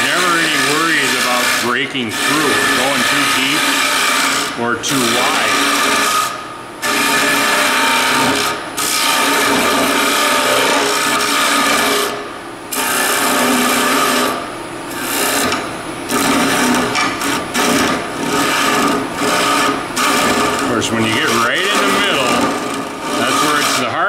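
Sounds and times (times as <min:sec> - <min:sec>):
lathe tool scraping wood: 0:00.0 - 0:24.0.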